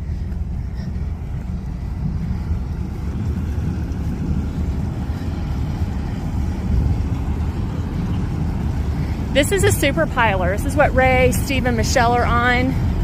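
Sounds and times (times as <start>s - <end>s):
low rumble of engines and machinery: 0.0s - 13.0s.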